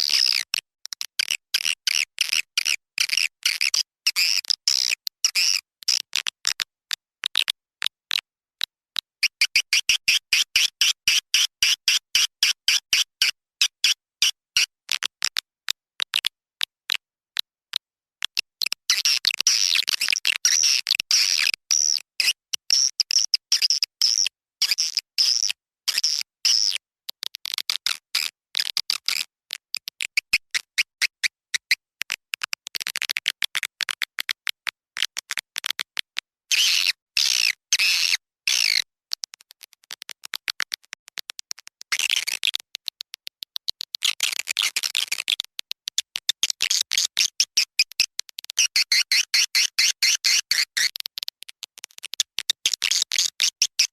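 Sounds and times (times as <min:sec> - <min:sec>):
swiftlet clicks and twittering chirps: 0:00.0 - 0:53.9.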